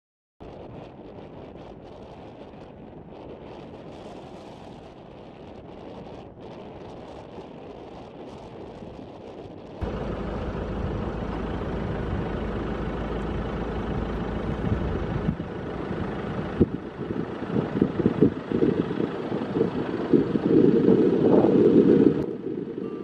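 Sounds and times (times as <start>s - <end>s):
wind noise inside car: 0.4s - 23.0s.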